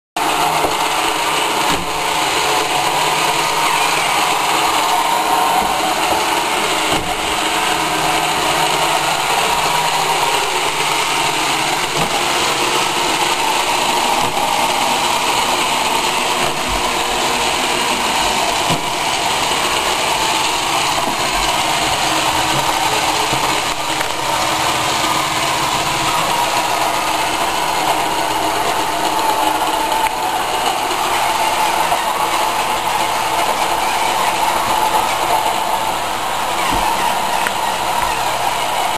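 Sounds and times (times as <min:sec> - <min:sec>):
robot vacuum motor whine: 0:00.2 - 0:38.9.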